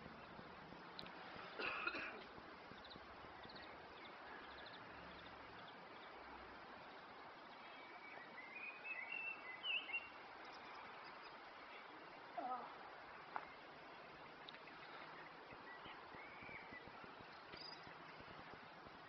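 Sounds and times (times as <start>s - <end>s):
faint outdoor background noise: 0.0s - 19.0s
bird chirping: 1.8s - 12.6s, 13.3s - 19.0s.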